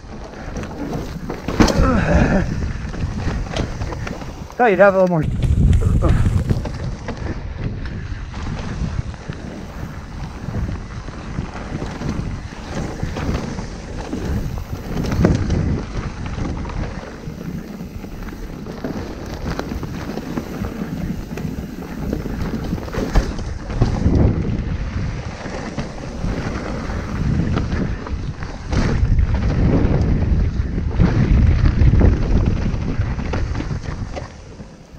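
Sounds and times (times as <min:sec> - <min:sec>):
bike knocking and rattling: 0:00.0 - 0:34.9
wind buffeting microphone: 0:00.0 - 0:34.9.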